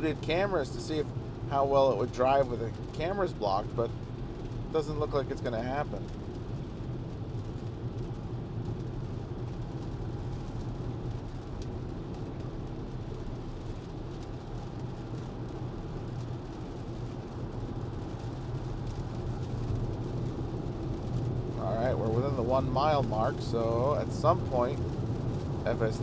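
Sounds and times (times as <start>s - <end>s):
road and tyre noise in car cabin: 0.0s - 26.0s.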